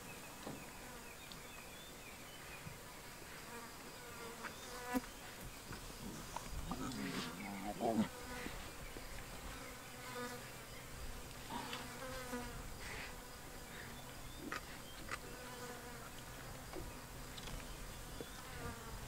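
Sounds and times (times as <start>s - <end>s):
flies buzzing: 0.1s - 19.0s.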